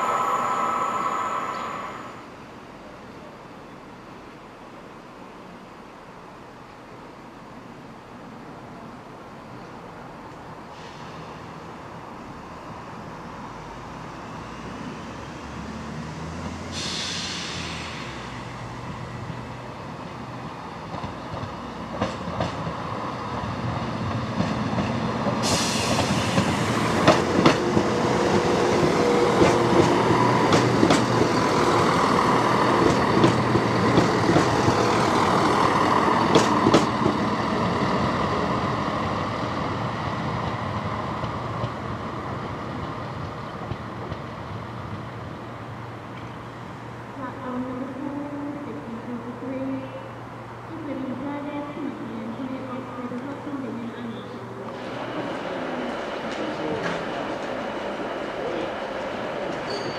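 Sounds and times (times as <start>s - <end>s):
train rumble: 9.4s - 59.9s.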